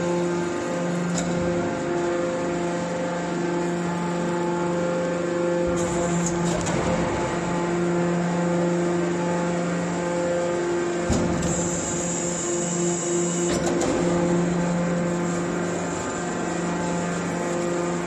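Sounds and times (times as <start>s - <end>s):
hydraulic baler humming: 0.0s - 18.0s.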